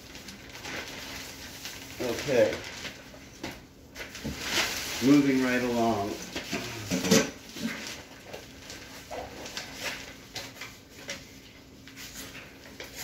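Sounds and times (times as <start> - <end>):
paper and plastic rustling: 0.0 - 13.0.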